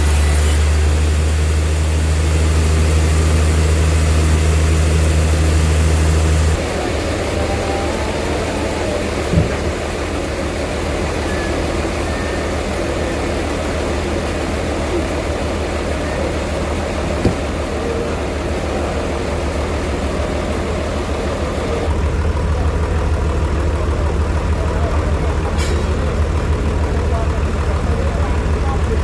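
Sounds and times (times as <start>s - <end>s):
sawmill machinery humming: 0.0s - 29.0s.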